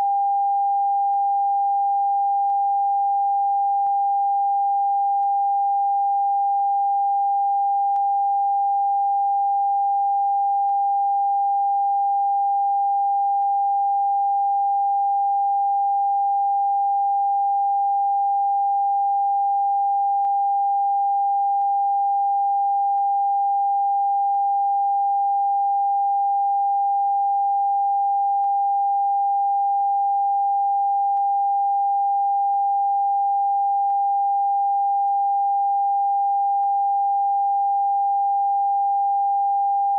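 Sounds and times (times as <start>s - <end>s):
steady sine-wave tone: 0.0s - 39.9s.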